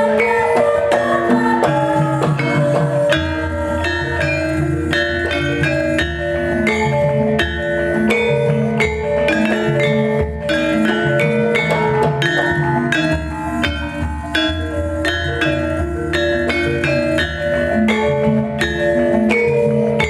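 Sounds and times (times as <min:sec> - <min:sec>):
gamelan ensemble playing: 0:00.0 - 0:20.0
percussive strikes: 0:00.0 - 0:20.0.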